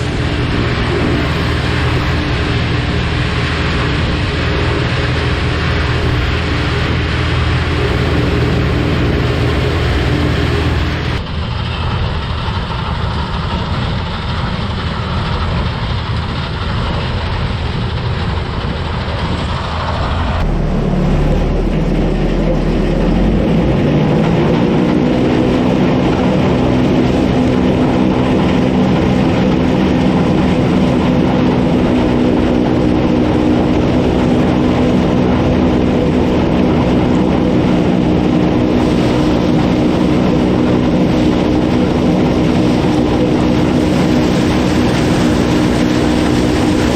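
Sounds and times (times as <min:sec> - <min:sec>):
combine harvester running: 0:00.0 - 0:46.9.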